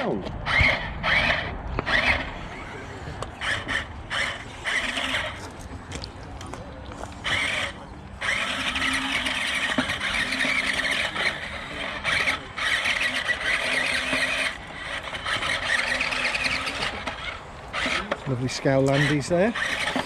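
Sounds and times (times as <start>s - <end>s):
toy truck electric motors whining: 0.0s - 6.1s, 7.0s - 20.0s.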